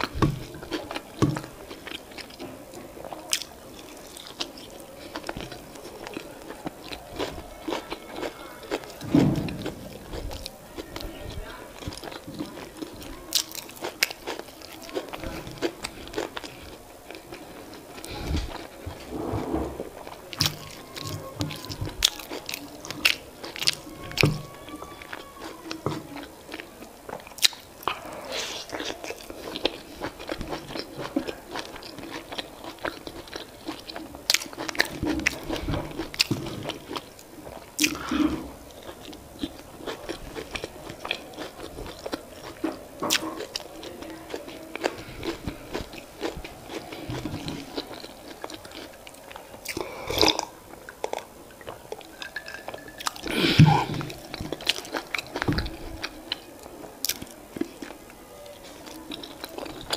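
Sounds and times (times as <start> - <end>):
person chewing and eating: 0.0 - 59.9.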